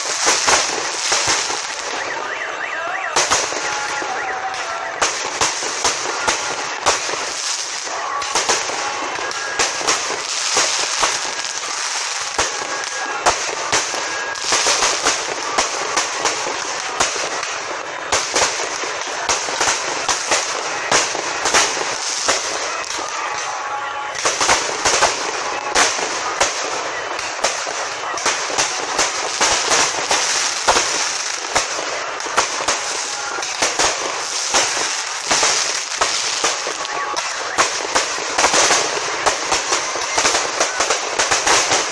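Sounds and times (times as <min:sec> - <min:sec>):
fireworks bangs: 0:00.0 - 0:41.9
crackling hiss: 0:03.2 - 0:41.9.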